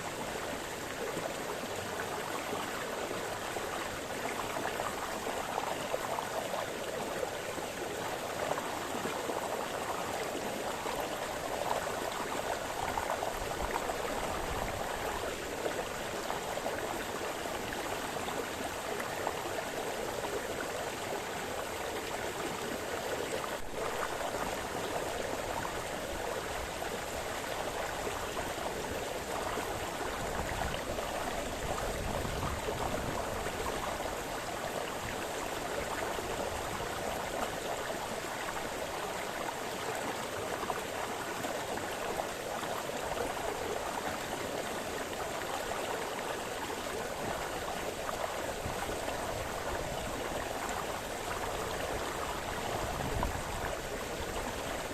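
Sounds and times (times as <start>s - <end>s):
brook burbling over stones: 0.0s - 54.9s.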